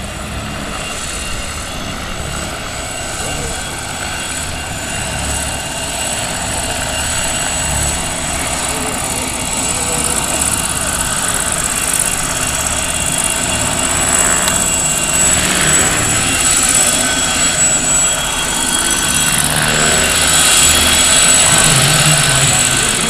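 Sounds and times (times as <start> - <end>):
high turbine whine: 0.0 - 23.0
rotor blades: 0.0 - 23.0.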